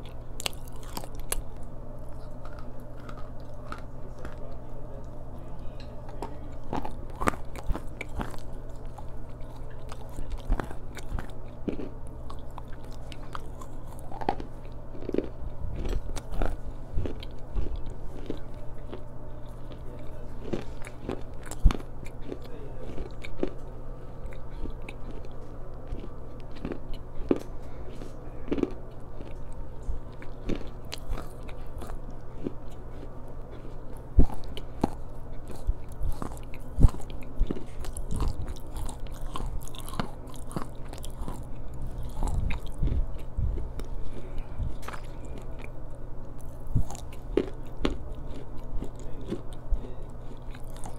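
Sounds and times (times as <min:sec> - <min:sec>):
crunching and chewing: 0:00.0 - 0:50.9
steady low hum: 0:00.0 - 0:50.9.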